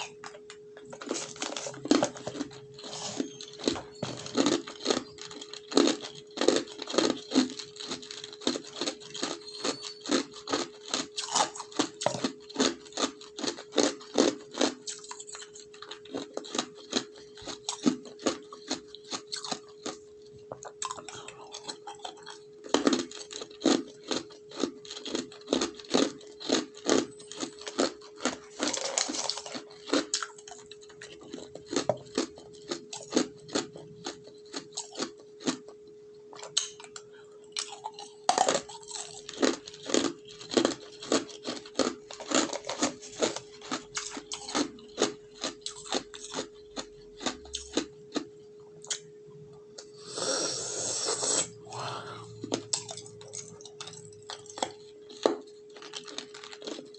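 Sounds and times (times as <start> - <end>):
ice cubes being chewed: 0.0 - 49.1, 50.4 - 56.9
faint hum: 0.0 - 56.9.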